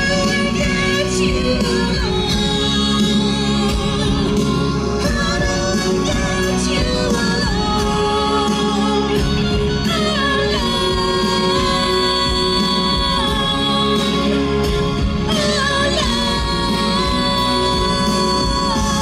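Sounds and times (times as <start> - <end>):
backing track music: 0.0 - 19.0
two voices singing a duet: 0.0 - 19.0.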